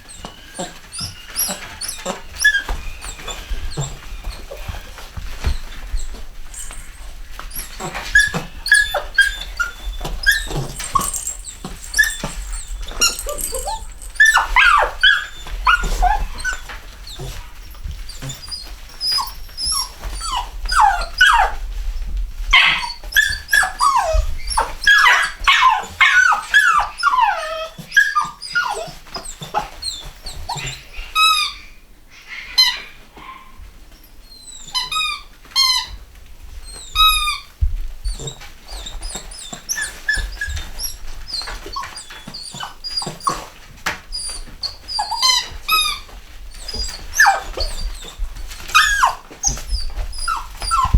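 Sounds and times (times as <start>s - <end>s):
puppies whimpering and squealing: 0.0s - 50.9s.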